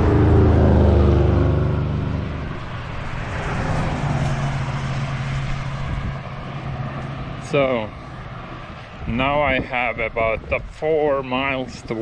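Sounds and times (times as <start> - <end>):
motor engine passing: 0.0 - 9.6
low engine drone: 0.0 - 10.8.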